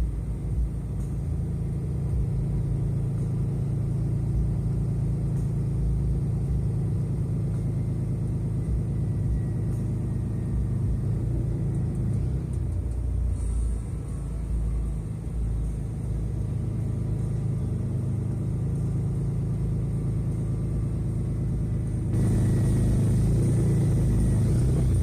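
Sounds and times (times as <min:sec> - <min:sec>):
diesel engine idling rumble: 0:00.0 - 0:25.0.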